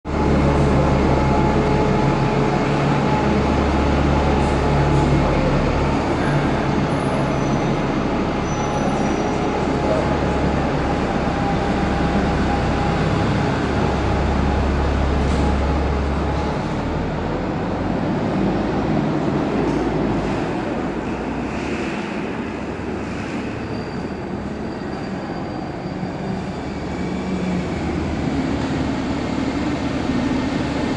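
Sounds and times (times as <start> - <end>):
diesel bus engine idling: 0.1 - 30.9.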